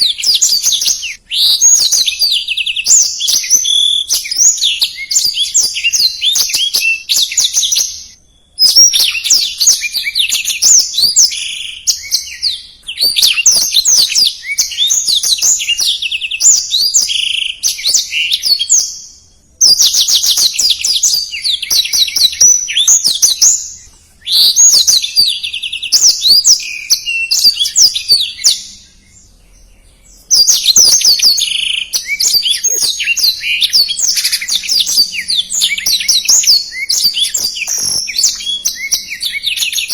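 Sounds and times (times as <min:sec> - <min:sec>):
canary singing twitters and trills: 0:00.0 - 0:39.9.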